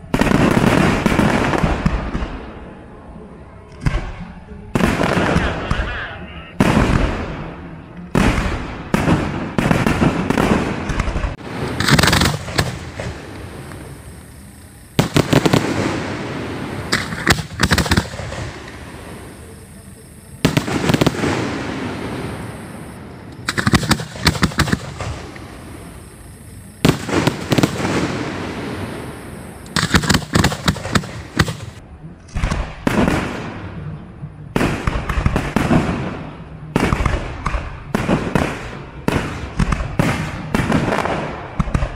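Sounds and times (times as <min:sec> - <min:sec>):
fireworks crackling: 0:00.0 - 0:02.8, 0:03.8 - 0:33.8, 0:34.5 - 0:41.9
fireworks bursting with sharp bangs: 0:00.0 - 0:03.0, 0:03.7 - 0:41.9.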